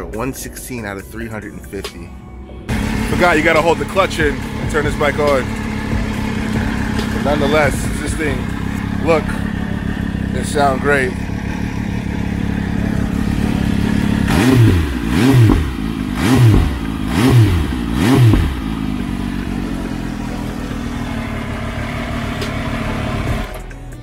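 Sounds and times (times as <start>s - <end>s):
motorcycle engine revving: 2.6s - 24.0s.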